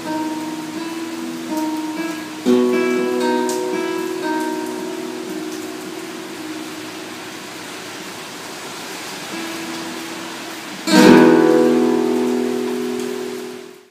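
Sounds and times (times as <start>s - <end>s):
classical guitar: 0.0s - 7.6s, 9.3s - 13.9s.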